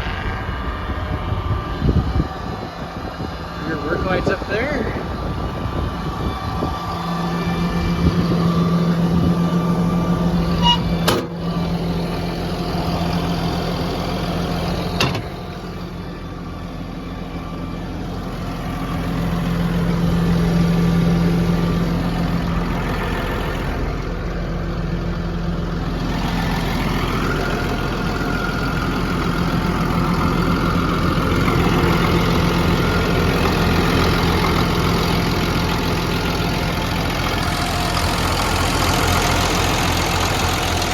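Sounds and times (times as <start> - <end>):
bulldozer diesel engine idling: 0.0 - 40.9.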